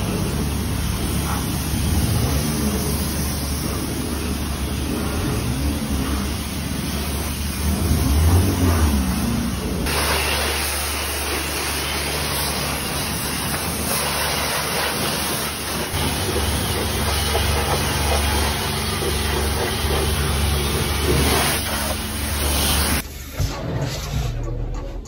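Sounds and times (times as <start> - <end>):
pressure washer spraying water: 0.0 - 23.0.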